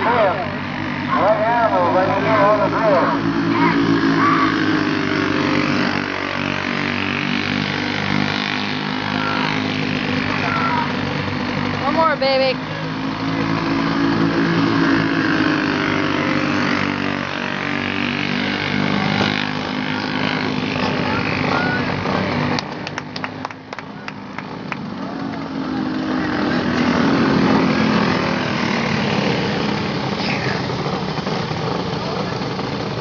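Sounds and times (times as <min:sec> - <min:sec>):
go-kart engines racing past: 0:00.0 - 0:33.0.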